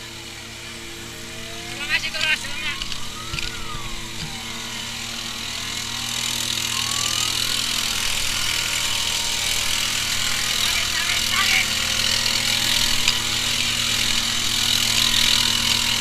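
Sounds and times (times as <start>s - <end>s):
faint wailing siren: 0.0s - 16.0s
vehicle engine and road noise: 0.0s - 16.0s.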